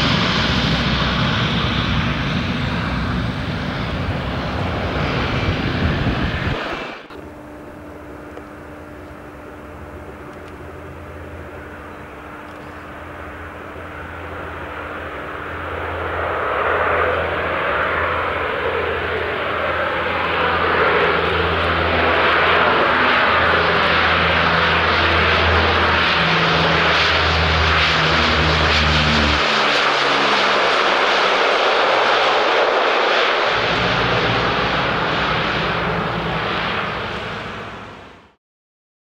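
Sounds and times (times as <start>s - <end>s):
turboprop airliner passing overhead: 0.0s - 38.4s.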